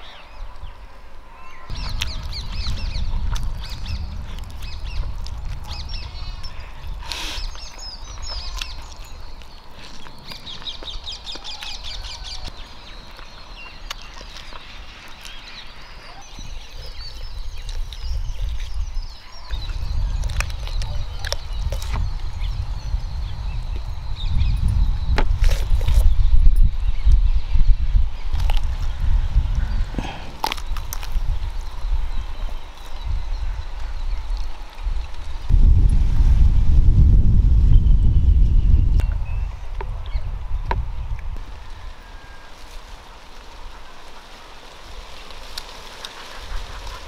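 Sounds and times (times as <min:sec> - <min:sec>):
birds chirping: 0:00.0 - 0:35.9, 0:37.7 - 0:47.0.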